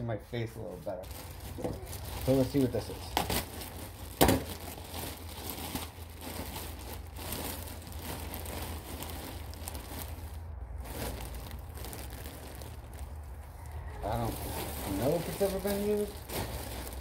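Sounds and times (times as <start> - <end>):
cloth rustling: 1.0 - 17.0
plastic packaging crinkling: 1.0 - 17.0.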